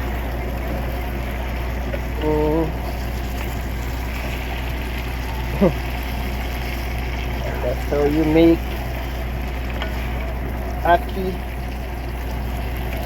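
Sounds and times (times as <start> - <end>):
truck engine idling: 0.0 - 13.0
voiced hum: 0.0 - 13.0.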